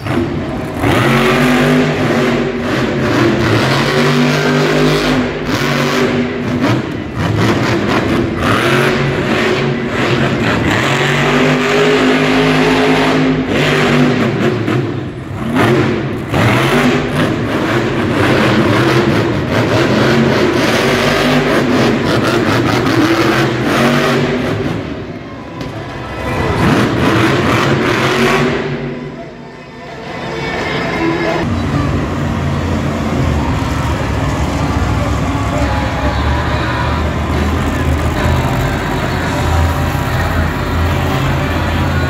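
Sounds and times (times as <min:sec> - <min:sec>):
truck engine revving hard: 0:00.0 - 0:25.2, 0:26.1 - 0:29.2, 0:31.4 - 0:42.0.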